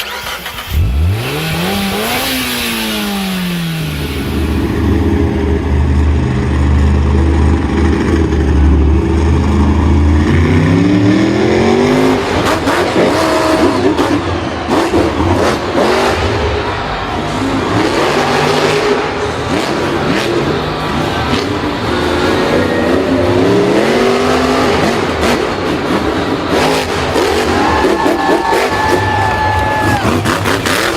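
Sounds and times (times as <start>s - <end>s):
vehicle engine revving: 0.0s - 30.9s.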